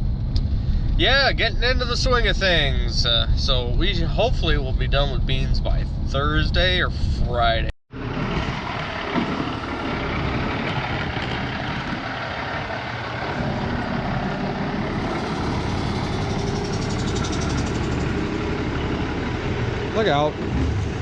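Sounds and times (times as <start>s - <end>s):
heavy vehicle engine rumbling: 0.0s - 21.0s
road noise: 0.0s - 21.0s.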